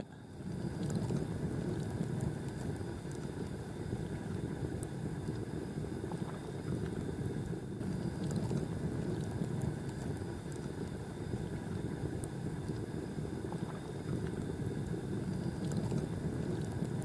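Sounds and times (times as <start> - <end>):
low fire rumble: 0.0 - 17.0.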